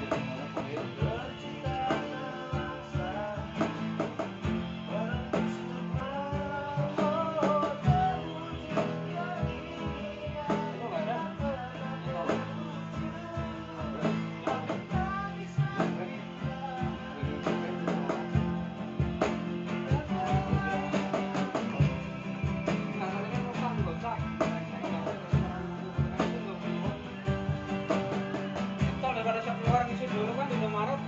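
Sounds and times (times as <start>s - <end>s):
acoustic guitars strumming: 0.0s - 31.0s.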